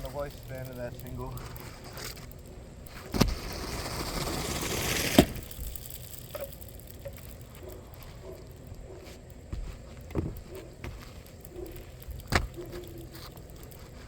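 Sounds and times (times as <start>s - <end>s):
faint ticks: 0.0s - 14.0s
gritty scraping of roof shingle: 0.0s - 14.0s.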